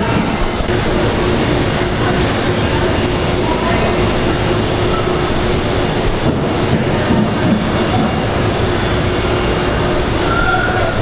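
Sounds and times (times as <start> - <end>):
model trains rumbling: 0.0 - 11.0.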